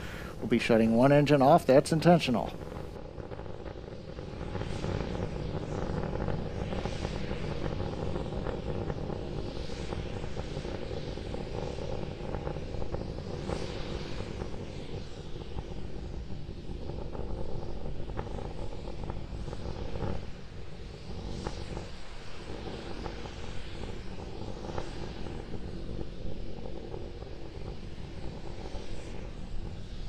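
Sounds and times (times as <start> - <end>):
rocket engine rumble with crackling: 0.0 - 30.0.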